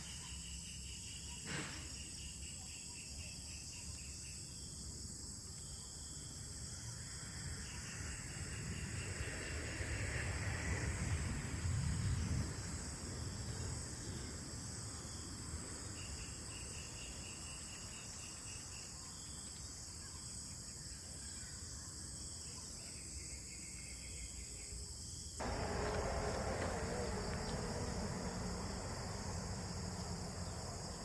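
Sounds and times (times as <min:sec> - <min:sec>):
insects buzzing: 0:00.0 - 0:31.0
outdoor background noise: 0:00.0 - 0:31.0.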